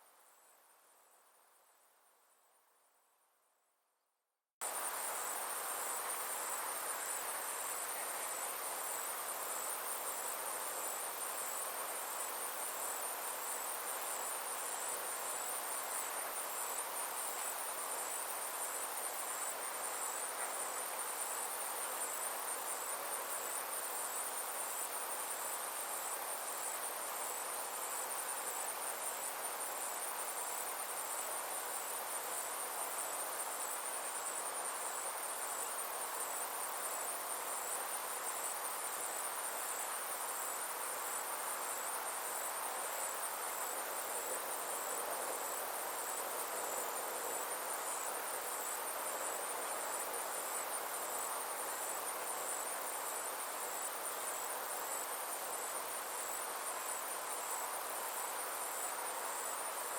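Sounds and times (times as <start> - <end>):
background hiss: 0.0 - 59.9
insects trilling: 4.6 - 59.9.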